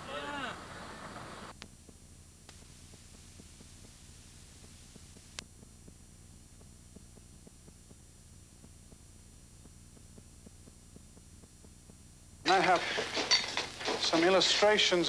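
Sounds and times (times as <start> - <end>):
videotape hum and hiss: 0.0 - 15.0
faint ticking: 1.2 - 15.0.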